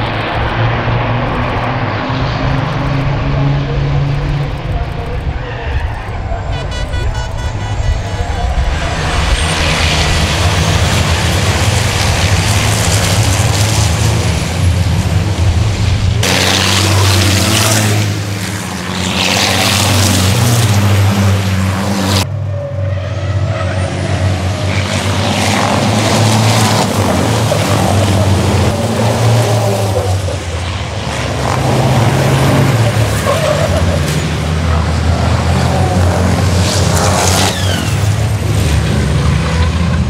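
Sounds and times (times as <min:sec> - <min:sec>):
racing truck diesel engines: 0:00.0 - 0:40.0.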